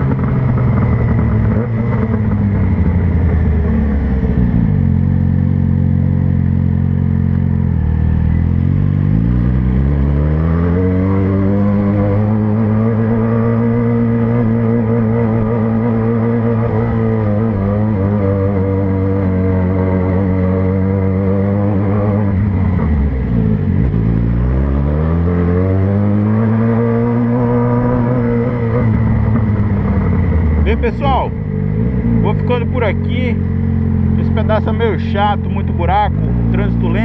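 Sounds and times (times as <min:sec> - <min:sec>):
motorcycle engine: 0:00.0 - 0:37.0.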